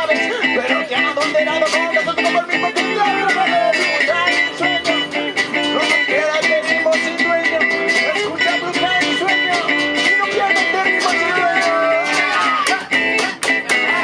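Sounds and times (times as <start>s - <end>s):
acoustic guitar strumming: 0.0s - 14.0s
sliding melody line: 0.0s - 14.0s.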